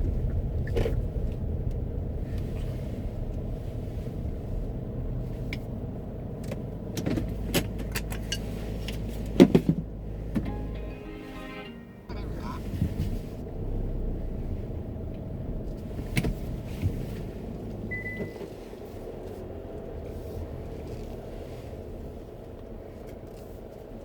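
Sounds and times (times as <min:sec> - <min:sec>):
car engine and road rumble: 0:00.0 - 0:11.2, 0:12.0 - 0:24.0.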